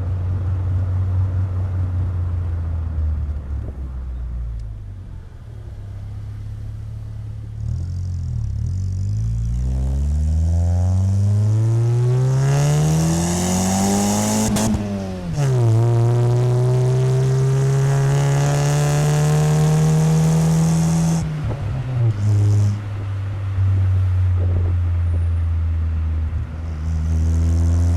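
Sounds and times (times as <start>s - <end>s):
car exhaust accelerating: 0.0s - 27.9s.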